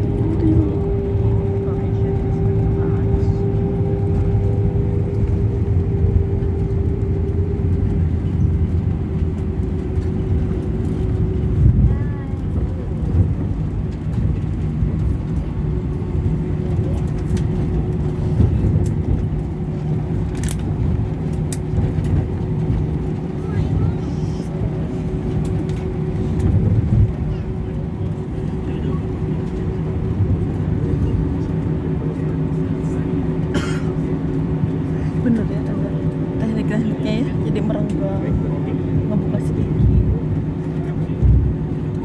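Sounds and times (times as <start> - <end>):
constant humming tone: 0.0 - 42.0
jet engine rumble in cabin: 0.0 - 42.0.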